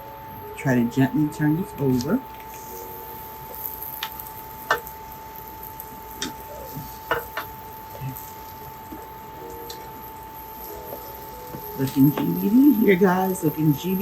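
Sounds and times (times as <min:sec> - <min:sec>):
food sizzling in butter: 0:00.4 - 0:14.0.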